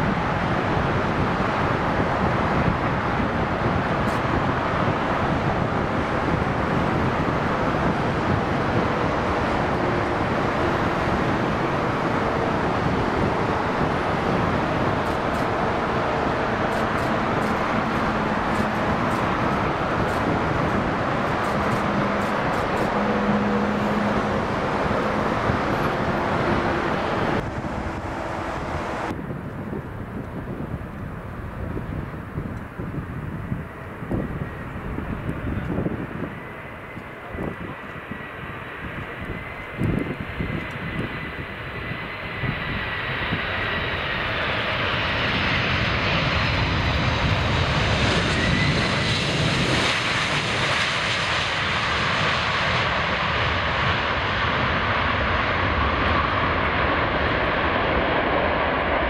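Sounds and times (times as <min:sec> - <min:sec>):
heavy motorway traffic roar: 0:00.0 - 0:59.0.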